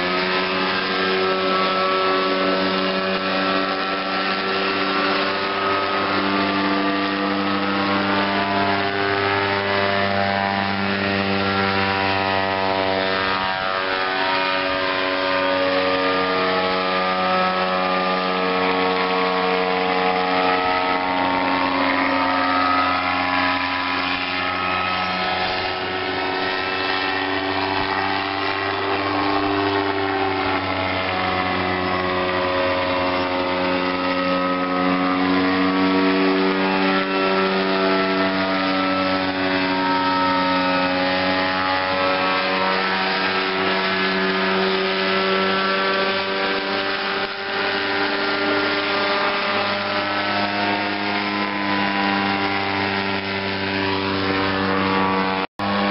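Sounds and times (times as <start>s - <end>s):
gyroplane engine and propeller drone: 0.0s - 55.9s.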